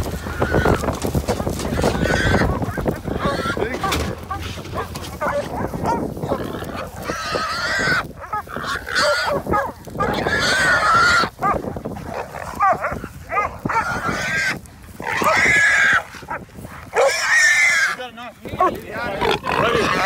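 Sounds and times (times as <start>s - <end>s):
hog squealing: 0.2s - 11.6s, 12.3s - 16.3s, 16.9s - 18.0s.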